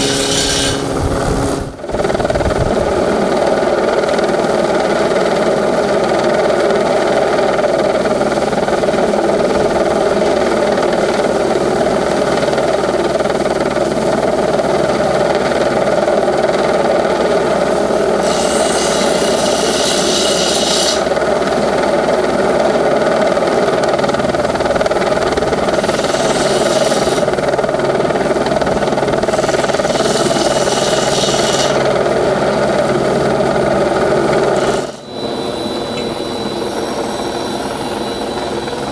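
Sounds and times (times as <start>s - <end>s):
helicopter engine and rotor drone: 0.0s - 20.3s, 21.0s - 38.9s.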